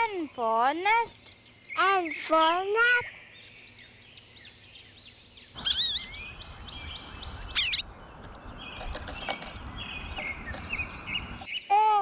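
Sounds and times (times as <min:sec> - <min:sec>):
songbirds chirping: 0:00.0 - 0:12.0
steady outdoor hiss: 0:00.0 - 0:12.0
warbling bird calls: 0:01.5 - 0:11.7.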